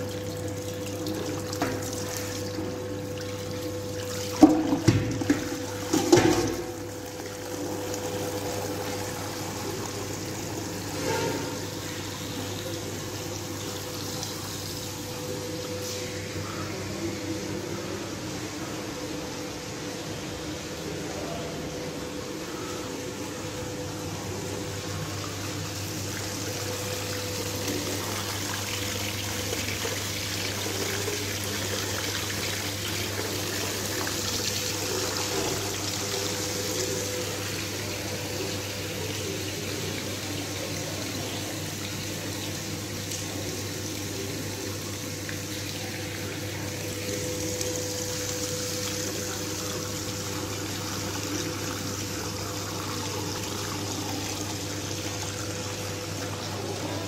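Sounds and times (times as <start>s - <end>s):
water pouring into a bowl: 0.0s - 17.6s, 22.4s - 57.0s.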